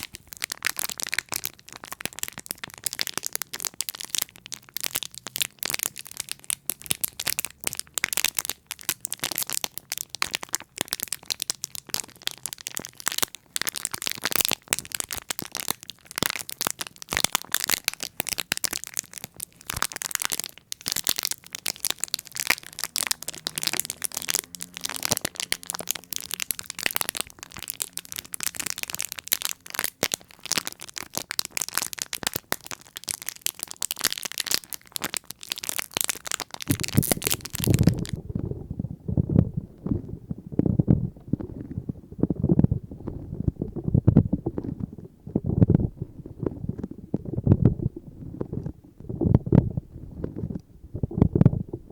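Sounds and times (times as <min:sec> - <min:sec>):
crackling and crinkling: 0:00.0 - 0:51.9.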